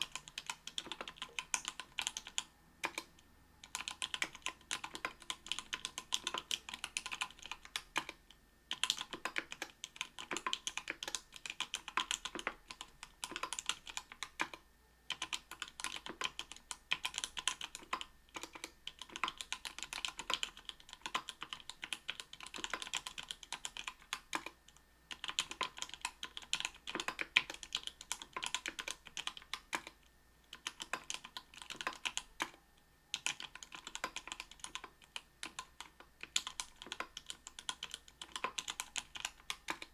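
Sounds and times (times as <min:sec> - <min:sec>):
mechanical keyboard typing clacks: 0:00.0 - 0:32.6, 0:33.2 - 0:39.9.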